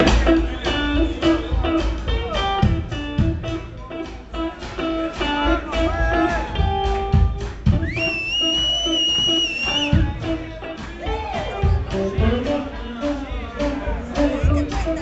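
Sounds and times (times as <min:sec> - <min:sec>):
blues guitar music: 0:00.0 - 0:15.0.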